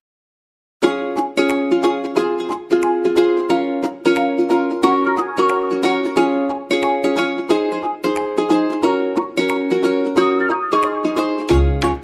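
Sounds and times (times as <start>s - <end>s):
plucked string tune: 0.8s - 12.0s.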